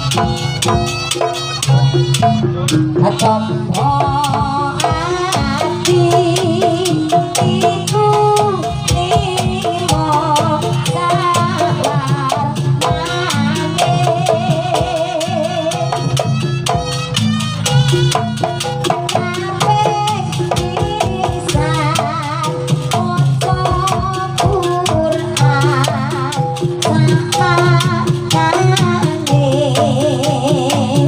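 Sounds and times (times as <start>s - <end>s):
rapid sharp percussion strikes: 0.0s - 31.0s
steady drum beat: 0.0s - 31.0s.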